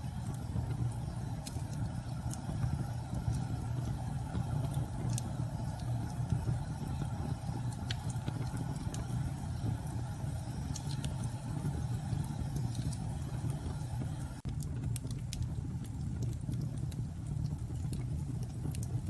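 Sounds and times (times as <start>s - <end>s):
low rumble of storm wind: 0.0s - 19.0s
wood fire crackling and popping: 0.0s - 19.0s.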